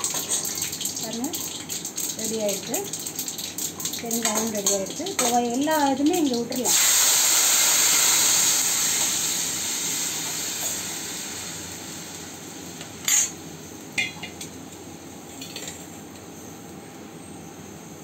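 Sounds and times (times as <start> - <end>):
liquid sizzling in hot oil: 0.0 - 16.6.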